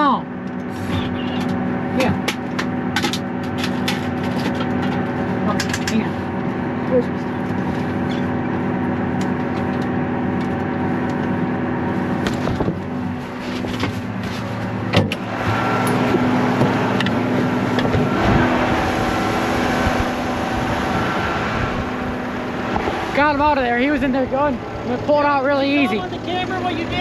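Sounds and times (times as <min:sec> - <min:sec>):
tractor engine under load: 0:00.3 - 0:27.0.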